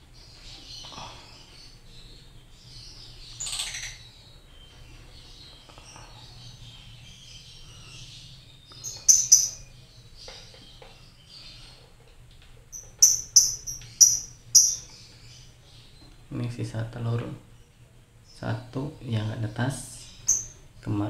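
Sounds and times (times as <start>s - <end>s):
lovebirds chirping and chattering: 0.0s - 21.0s.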